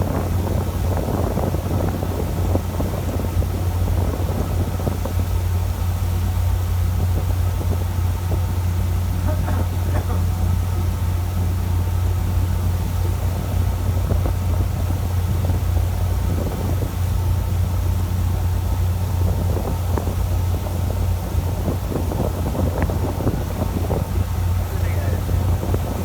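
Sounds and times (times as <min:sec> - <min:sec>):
boat engine droning: 0:00.0 - 0:26.0
wind noise on microphone: 0:00.0 - 0:26.0.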